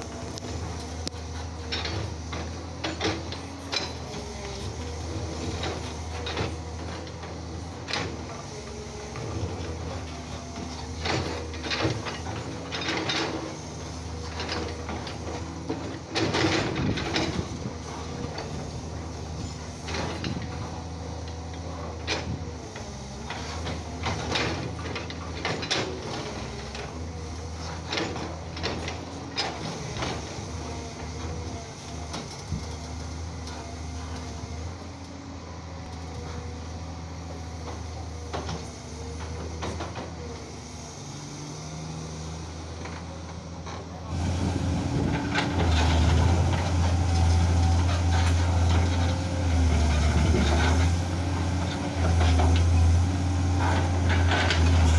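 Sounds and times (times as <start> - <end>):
excavator diesel drone: 0.0 - 54.9.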